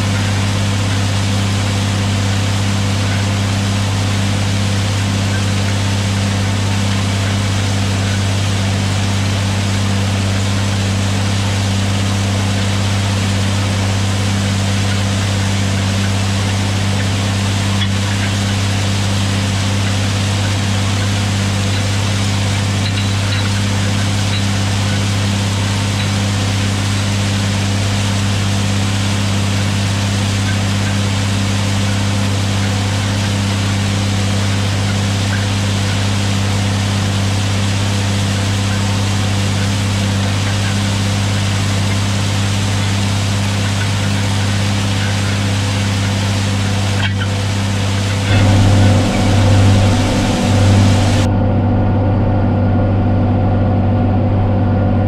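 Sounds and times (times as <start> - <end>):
diesel tractor engine drone: 0.0 - 55.0.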